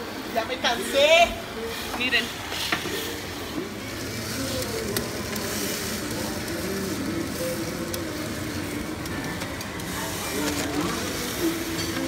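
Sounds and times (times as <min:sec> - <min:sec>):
faint background voices: 0:00.0 - 0:12.0
gas stove burner rushing: 0:00.7 - 0:12.0.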